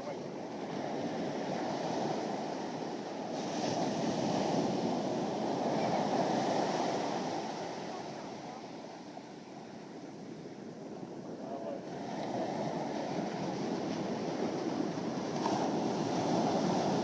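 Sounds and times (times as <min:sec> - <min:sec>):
ocean surf rushing: 0:00.0 - 0:17.0
wind on microphone: 0:00.0 - 0:17.0.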